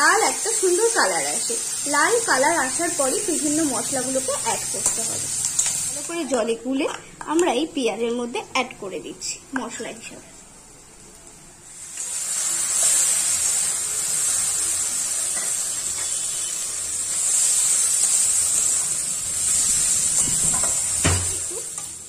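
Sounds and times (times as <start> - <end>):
onions and paste sizzling in oil: 0.0 - 22.0.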